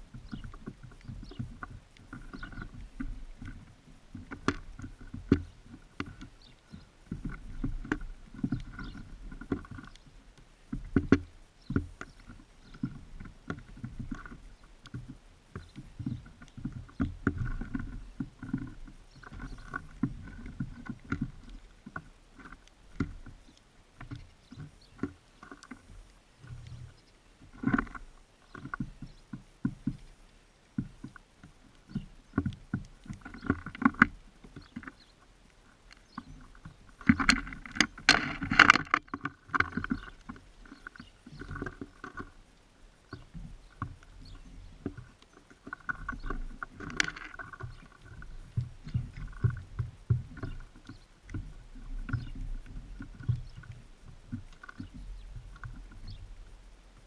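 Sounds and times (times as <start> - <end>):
birds pecking on a feeder: 0.0 - 57.0.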